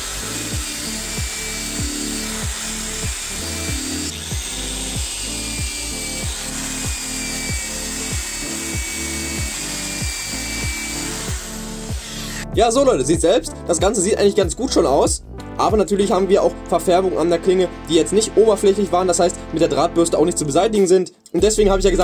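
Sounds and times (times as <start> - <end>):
background music with beat: 0.0 - 22.0.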